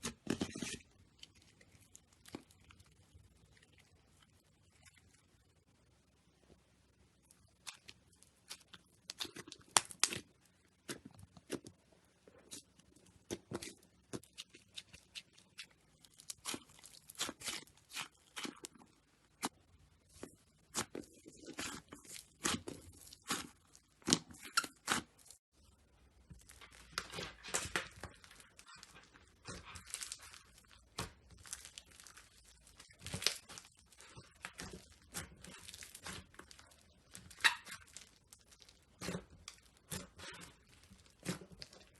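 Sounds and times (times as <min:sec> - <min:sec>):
slime crackling and popping: 0:00.0 - 0:05.5, 0:07.2 - 0:11.8, 0:12.5 - 0:41.9.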